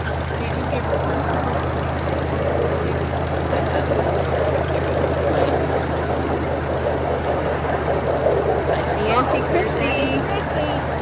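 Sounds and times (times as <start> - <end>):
train running heard on board: 0.0 - 11.0.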